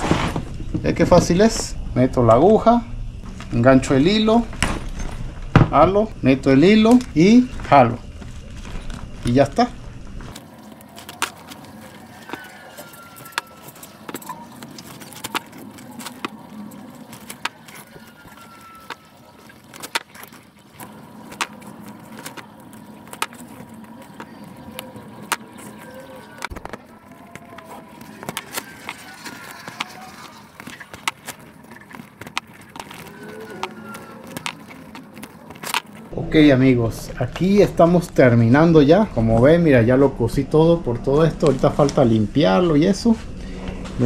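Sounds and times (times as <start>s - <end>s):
faint background hum: 0.0s - 44.0s.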